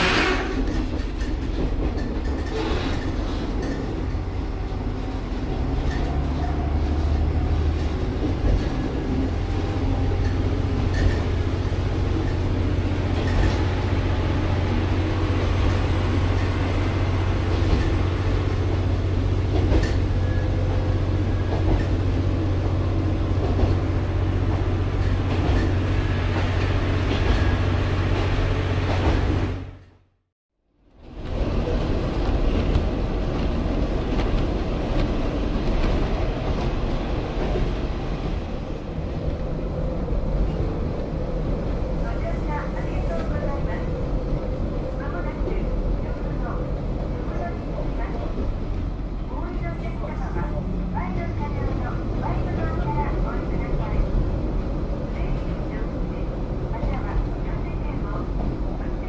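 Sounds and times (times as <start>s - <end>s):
train rumble: 0.0s - 30.0s, 30.8s - 59.0s.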